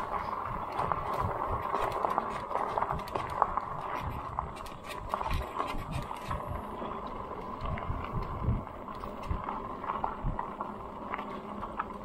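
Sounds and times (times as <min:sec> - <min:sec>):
e-bike rolling noise: 0:00.0 - 0:12.0
wind buffeting microphone: 0:00.0 - 0:12.0.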